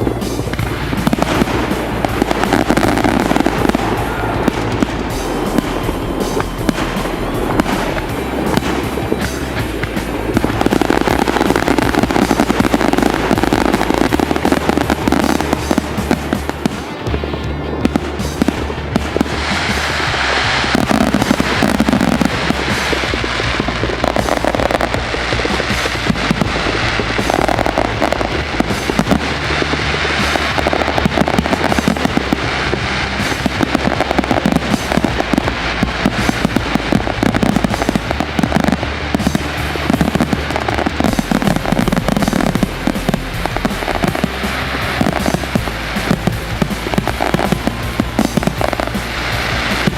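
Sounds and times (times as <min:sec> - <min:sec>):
fireworks bangs and crackles: 0:00.0 - 0:49.9
music with bass line: 0:00.0 - 0:49.9.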